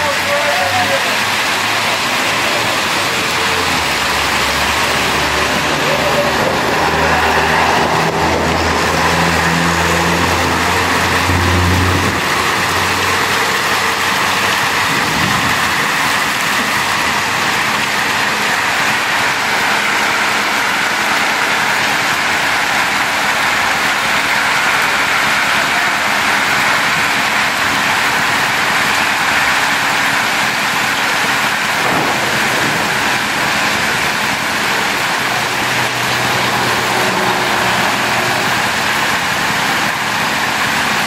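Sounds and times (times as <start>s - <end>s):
heavy rain and hail: 0.0s - 41.0s
low engine hum: 1.0s - 41.0s.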